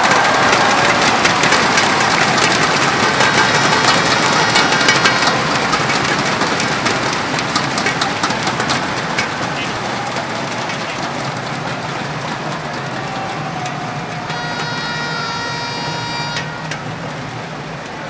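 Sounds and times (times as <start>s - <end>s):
thundersticks clattering: 0.0s - 14.9s
crowd voices: 0.0s - 18.0s.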